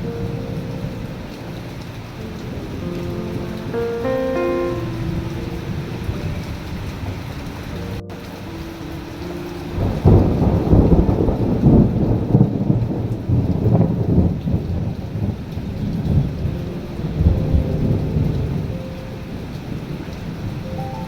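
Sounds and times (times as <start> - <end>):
rolling thunder rumble: 0.0 - 21.0
steady rain: 0.0 - 21.0.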